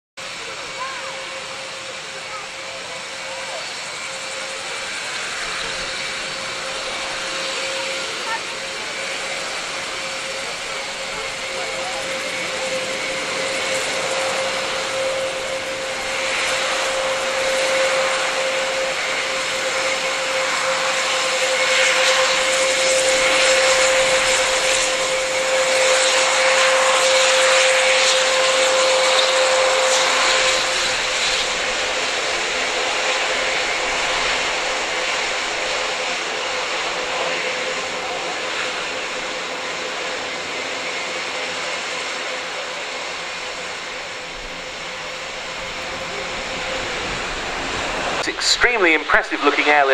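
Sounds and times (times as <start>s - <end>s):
turboprop aircraft taxiing: 0.2s - 49.9s.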